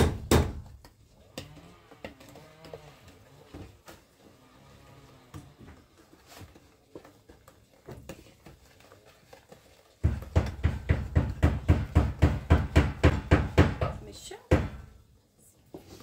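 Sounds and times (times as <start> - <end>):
utensil beating batter in bowl: 0.0 - 4.4, 5.3 - 15.0.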